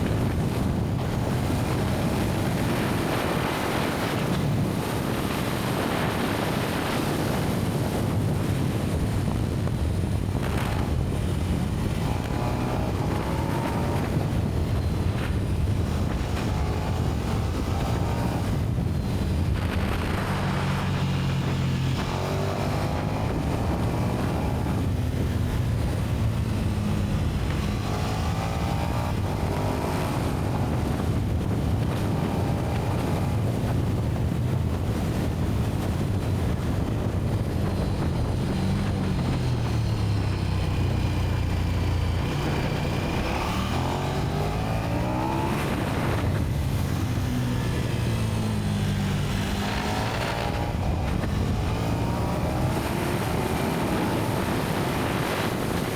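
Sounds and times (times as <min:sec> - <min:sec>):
motorcycle engine revving: 0:00.0 - 0:55.9
wind and road noise: 0:00.0 - 0:55.9.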